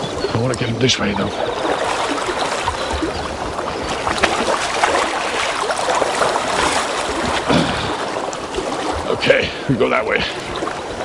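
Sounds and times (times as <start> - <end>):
rushing river water: 0.0 - 11.0
water splashing around legs: 0.0 - 11.0.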